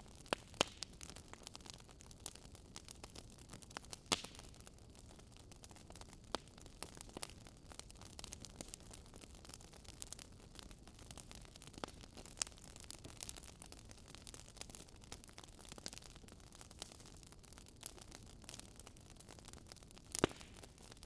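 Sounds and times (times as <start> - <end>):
campfire wood crackling: 0.0 - 21.0.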